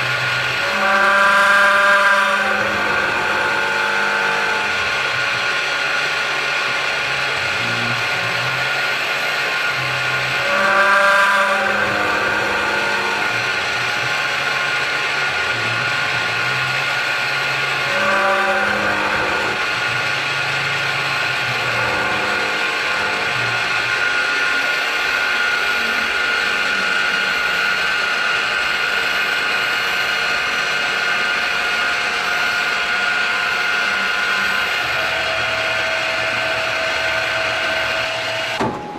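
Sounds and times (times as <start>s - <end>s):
mill cutting whine: 0.0s - 38.9s.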